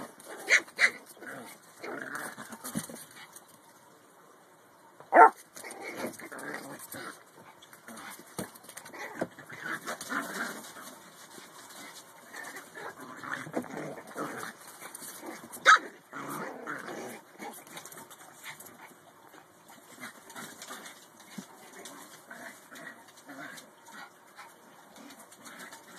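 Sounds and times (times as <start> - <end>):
dogs scuffling: 0.0 - 3.7, 5.3 - 16.4, 17.4 - 25.9.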